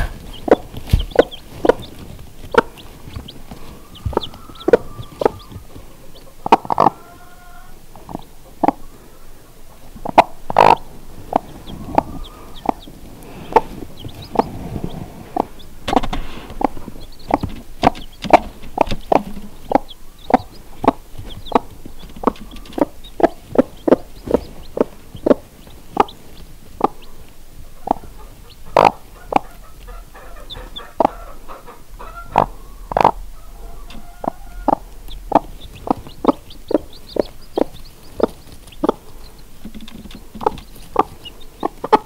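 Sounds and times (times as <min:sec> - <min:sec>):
chicks peeping: 0:00.0 - 0:42.0
hen clucking: 0:00.0 - 0:42.0.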